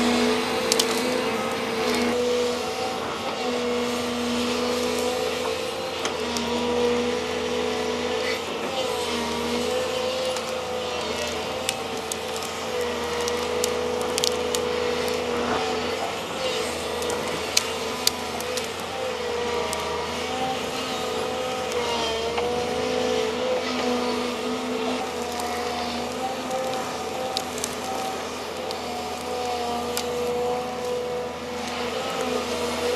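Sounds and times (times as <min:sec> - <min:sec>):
excavator engine and hydraulics: 0:00.0 - 0:32.9.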